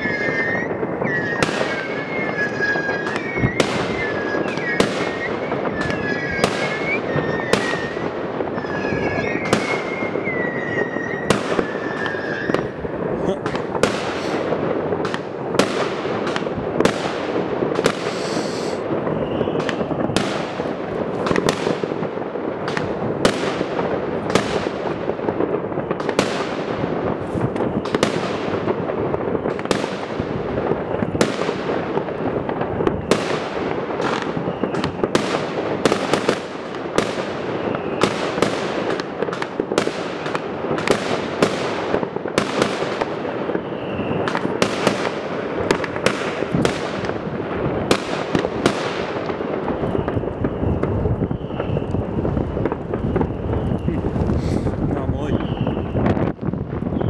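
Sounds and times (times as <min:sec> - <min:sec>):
firework bangs: 0:00.0 - 0:57.0
fireworks crackling: 0:00.0 - 0:57.0.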